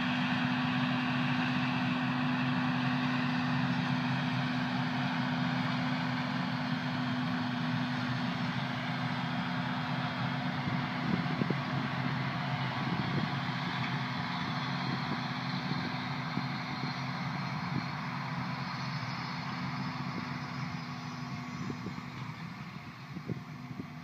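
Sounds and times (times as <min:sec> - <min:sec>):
diesel tractor running under load: 0:00.0 - 0:24.0.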